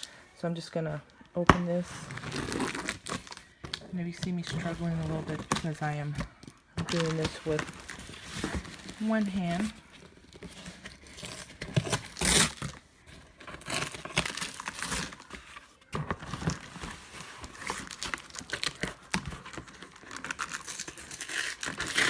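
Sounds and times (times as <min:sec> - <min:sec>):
packaging crinkling and tearing: 0:01.9 - 0:22.0.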